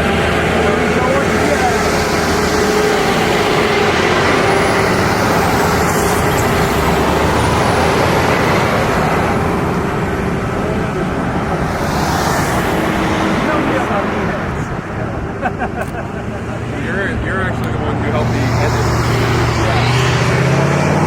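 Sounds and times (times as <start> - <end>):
jet aircraft engine with turbine whine: 0.0 - 20.9.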